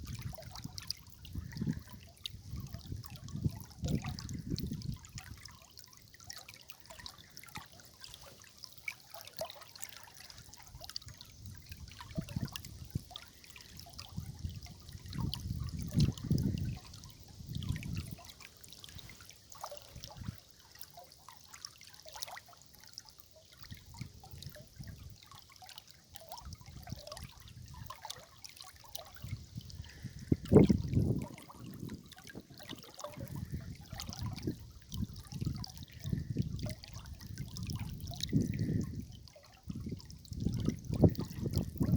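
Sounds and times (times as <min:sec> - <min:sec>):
river water trickling and gurgling: 0:00.0 - 0:41.9.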